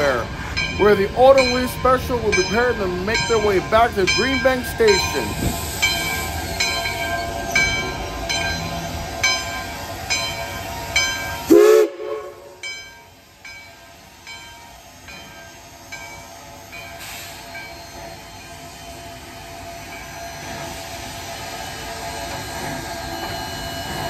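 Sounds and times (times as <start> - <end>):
steam hiss and rumble: 0.0 - 24.0
steam locomotive bell ringing: 0.0 - 24.0.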